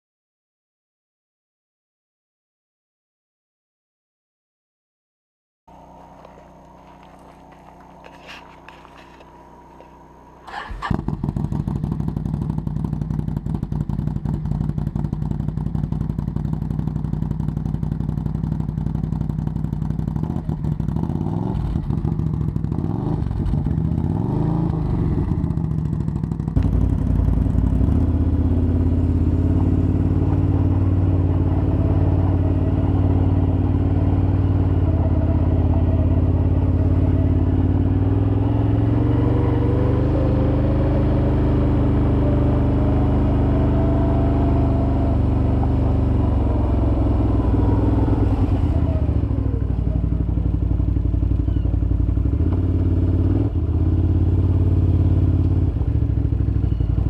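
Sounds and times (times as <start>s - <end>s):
atv engine idling and revving: 5.7s - 57.0s.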